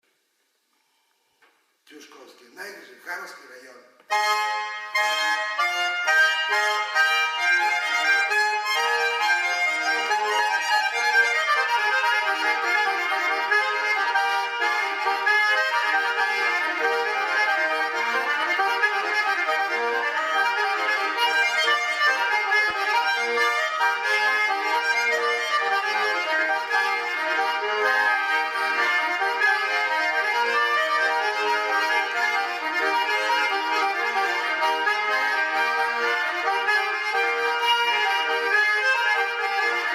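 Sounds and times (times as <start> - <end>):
button accordion dance tune: 4.0 - 39.9.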